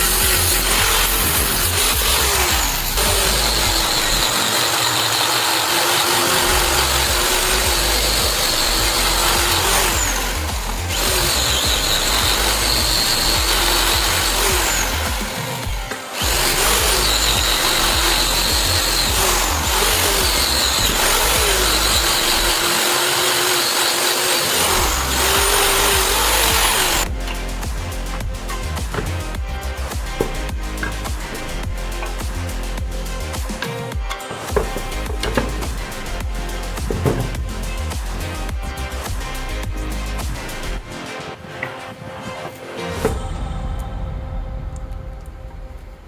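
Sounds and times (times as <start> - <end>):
electric power tool running: 0.0 - 36.2, 36.8 - 38.5.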